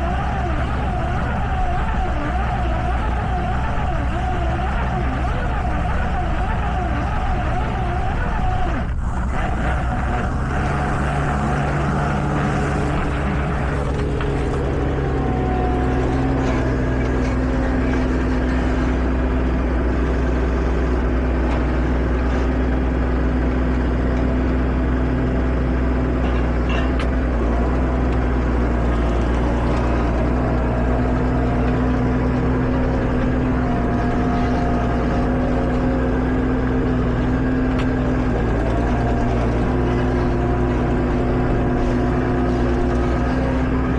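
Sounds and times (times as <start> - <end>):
tractor diesel engine droning: 0.0 - 43.9.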